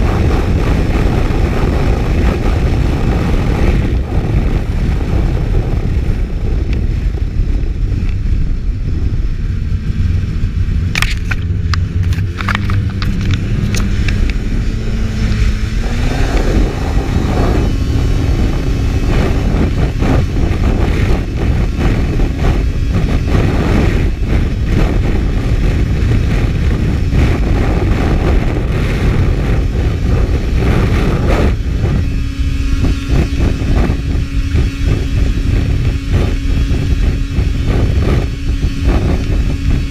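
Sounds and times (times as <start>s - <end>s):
snowmobile engine at speed: 0.0s - 39.9s
wind rumble: 0.0s - 39.9s.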